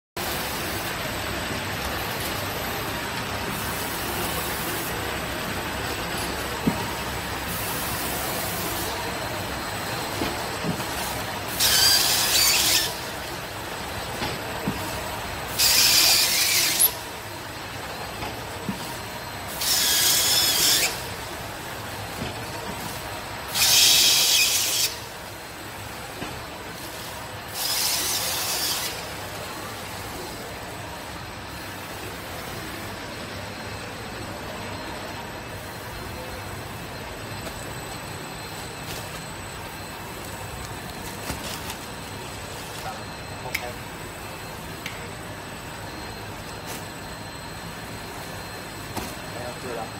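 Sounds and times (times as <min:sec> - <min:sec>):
wrapping machine running: 0:00.2 - 0:49.9.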